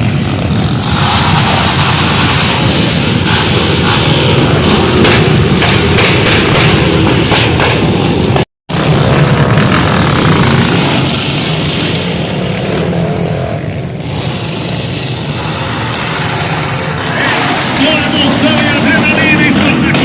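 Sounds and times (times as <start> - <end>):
loud rushing noise: 0.0 - 20.0
motor vehicle engine running: 0.0 - 20.0.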